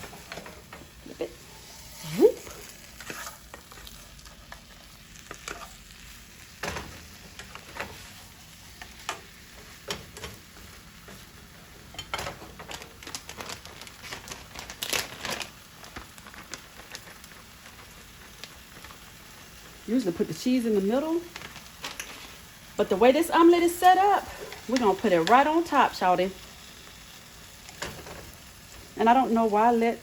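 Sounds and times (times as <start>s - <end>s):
omelet sizzling in a pan: 0.0s - 30.0s.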